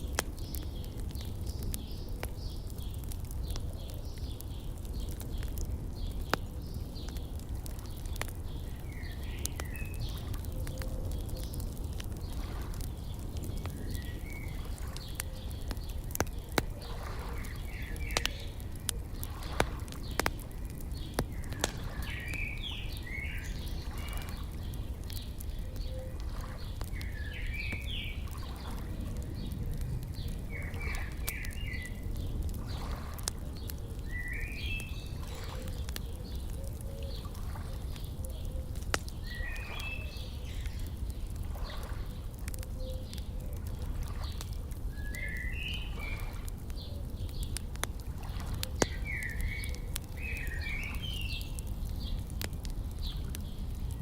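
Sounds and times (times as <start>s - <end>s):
songbird chirping: 0.0s - 47.8s, 48.4s - 52.2s
wood fire crackling: 0.0s - 54.0s.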